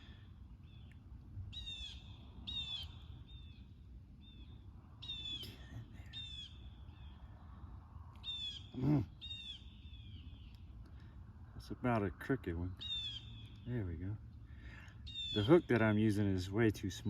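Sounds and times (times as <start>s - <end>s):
birds laughing calls: 0.0s - 7.4s, 8.2s - 17.0s.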